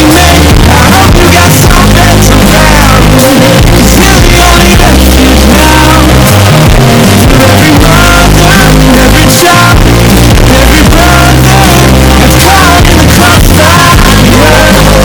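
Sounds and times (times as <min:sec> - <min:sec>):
bass-boosted rock-pop music: 0:00.0 - 0:15.0.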